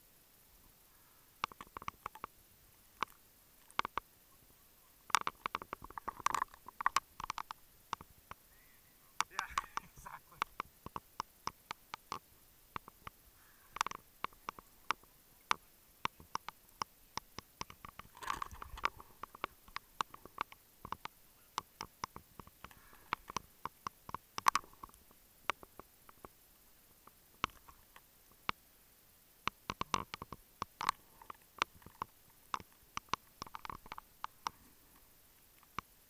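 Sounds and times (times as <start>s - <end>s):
underwater clicks and ticks: 1.3s - 8.6s, 9.2s - 28.7s, 29.4s - 36.0s.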